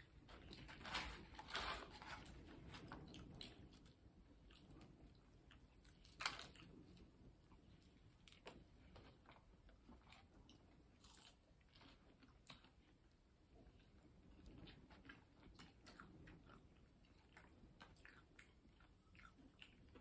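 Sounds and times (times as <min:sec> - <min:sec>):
chewing and crunching fries: 0:00.0 - 0:20.0.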